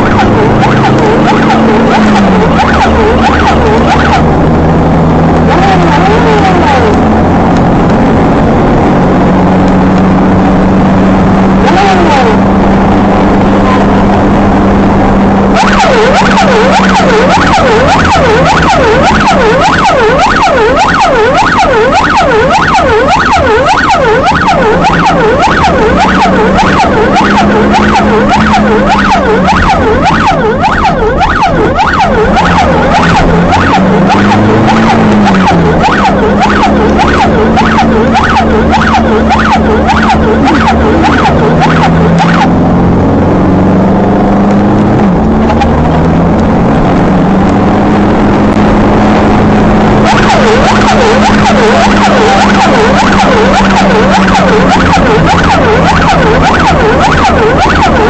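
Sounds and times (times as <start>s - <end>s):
electronic siren wailing and yelping: 0.0s - 58.0s.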